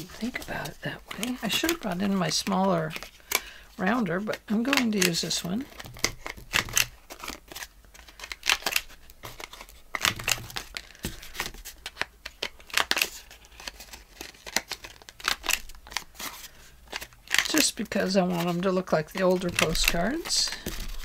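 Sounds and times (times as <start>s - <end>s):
paper cards rustling: 0.0s - 21.0s.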